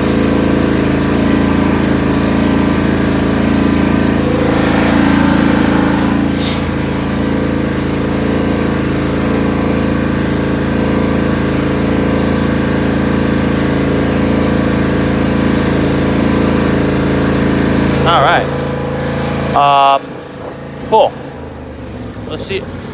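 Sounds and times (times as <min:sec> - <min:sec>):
lawn tractor engine running: 0:00.0 - 0:22.9.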